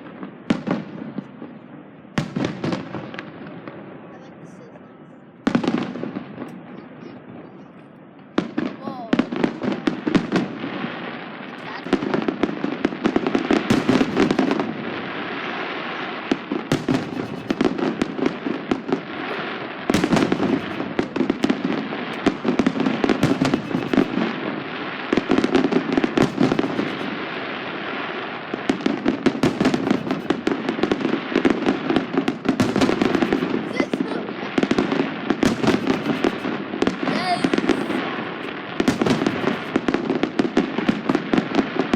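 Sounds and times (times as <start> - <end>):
fireworks crackling pops: 2.2 - 3.8, 4.5 - 41.9.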